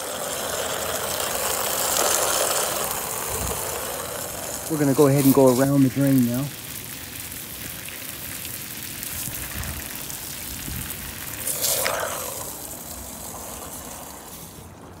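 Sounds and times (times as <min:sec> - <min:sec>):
water splashing into drain: 0:00.0 - 0:14.8
high-pressure water spray hissing: 0:00.0 - 0:15.0.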